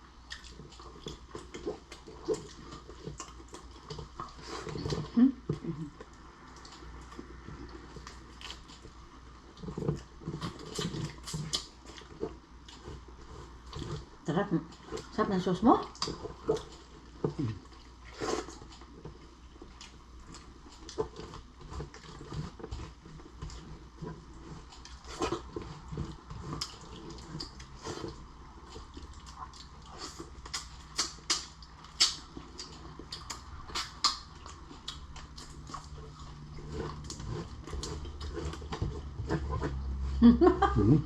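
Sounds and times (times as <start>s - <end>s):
chewing seafood: 0.0s - 41.0s.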